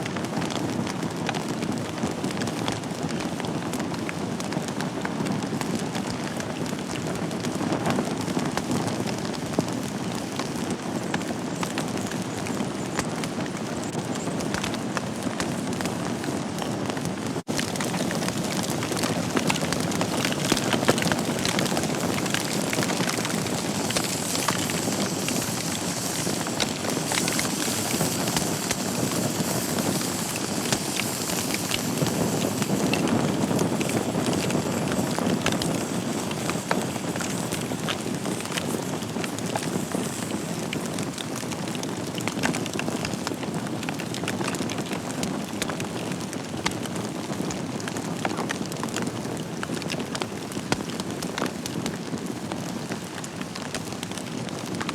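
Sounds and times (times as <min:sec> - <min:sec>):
wood fire crackling and popping: 0:00.0 - 0:54.9
flames hissing: 0:00.4 - 0:54.9.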